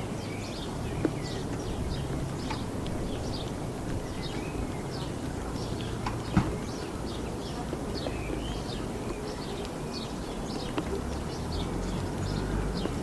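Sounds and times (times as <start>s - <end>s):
road traffic rumble: 0.0s - 13.0s
small birds chirping: 0.0s - 13.0s.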